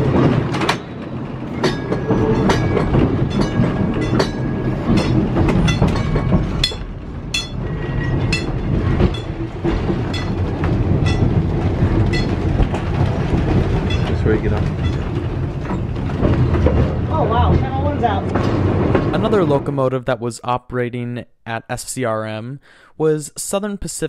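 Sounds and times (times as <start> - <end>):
sharp clicks and clacks: 0.0 - 19.6
streetcar rumbling: 0.0 - 20.0.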